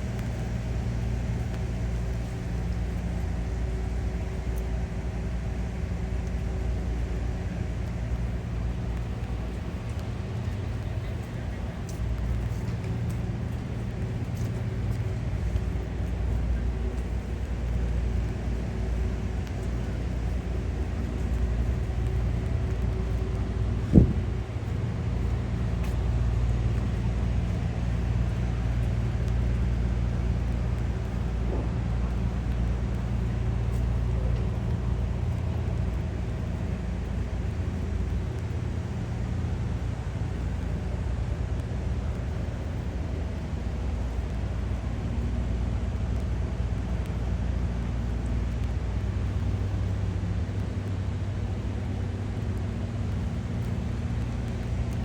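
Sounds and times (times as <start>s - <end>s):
city street rumble: 0.0s - 55.0s
constant low hum: 0.0s - 55.0s
distant traffic: 0.0s - 55.0s
low mechanical drone: 0.0s - 55.0s.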